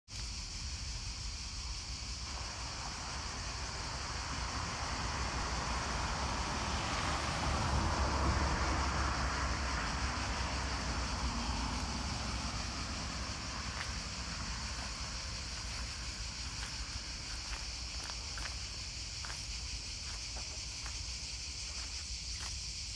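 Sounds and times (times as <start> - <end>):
wind rumbling on microphone: 0.3 - 22.9.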